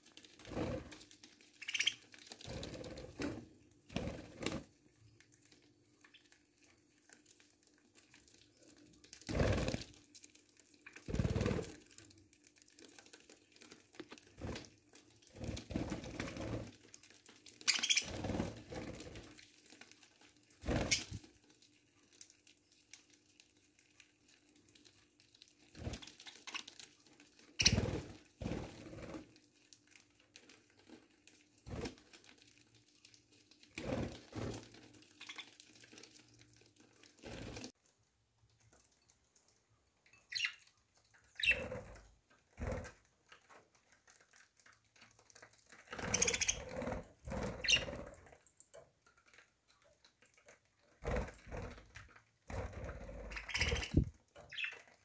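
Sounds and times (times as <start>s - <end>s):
birds pecking at seed: 0.0s - 37.7s, 38.5s - 55.0s.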